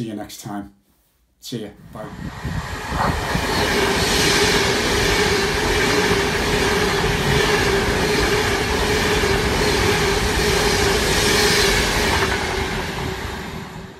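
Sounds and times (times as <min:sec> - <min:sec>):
electric train passing: 0:01.8 - 0:13.9
wheels rushing on rails: 0:02.0 - 0:13.9.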